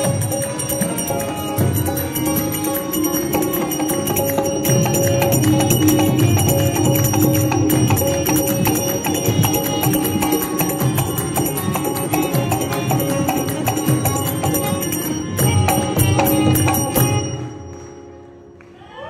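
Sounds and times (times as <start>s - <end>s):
held melody notes: 0.0s - 18.0s
hand cymbals struck: 0.0s - 18.1s.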